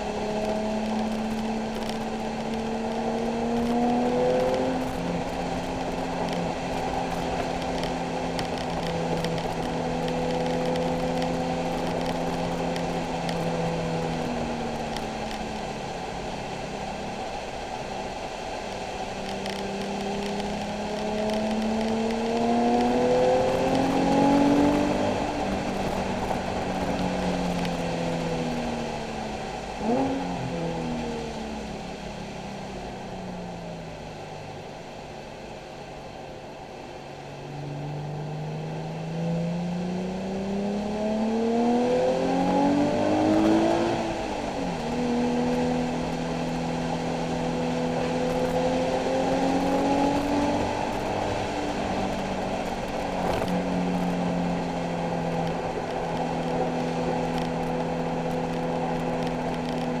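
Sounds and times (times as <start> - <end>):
car engine revving: 0.0 - 15.9, 18.8 - 34.2, 37.5 - 60.0
road noise: 0.0 - 60.0.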